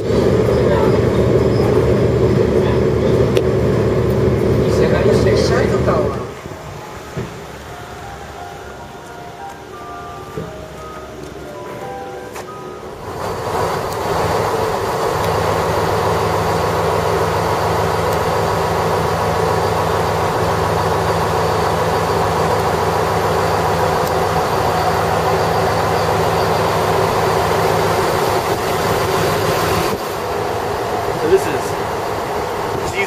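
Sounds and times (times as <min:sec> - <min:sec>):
diesel engine idling: 0:00.0 - 0:33.0
constant hiss: 0:02.6 - 0:33.0.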